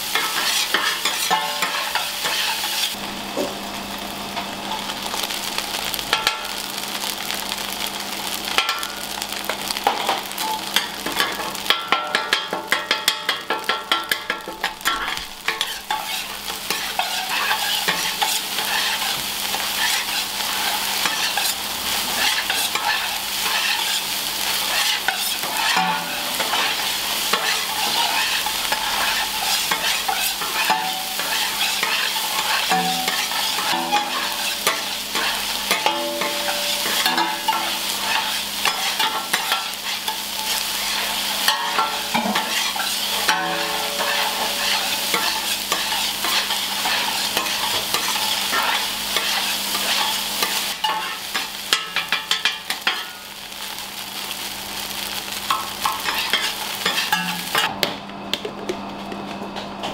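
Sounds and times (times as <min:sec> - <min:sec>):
rice sizzling in a wok: 0:00.0 - 0:59.9.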